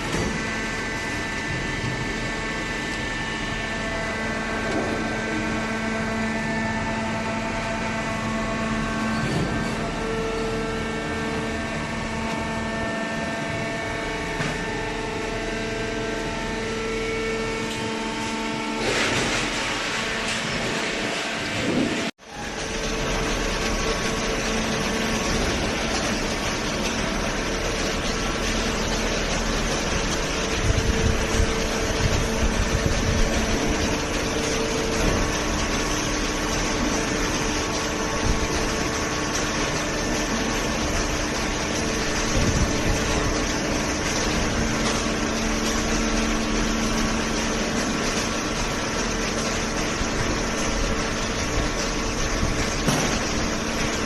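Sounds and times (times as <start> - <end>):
hydraulic baler running: 0.0 - 54.0.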